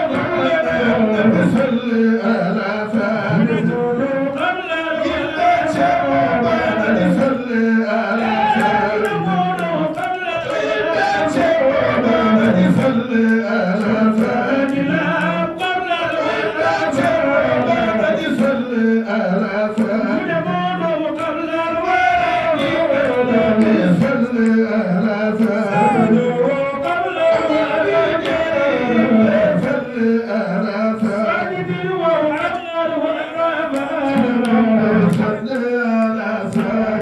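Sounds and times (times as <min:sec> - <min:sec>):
man chanting into microphone: 0:00.0 - 0:37.0.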